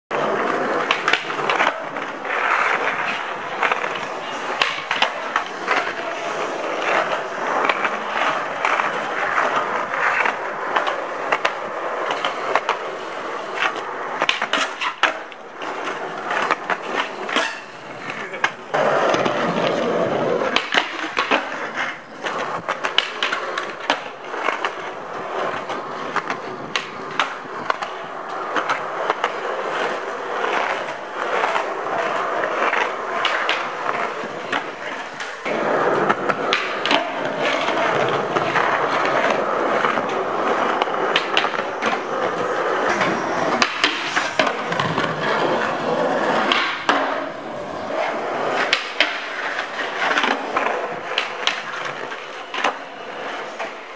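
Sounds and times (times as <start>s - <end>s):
skateboard clacking on ground: 0.1s - 53.9s
skateboard wheels rolling: 0.1s - 53.9s.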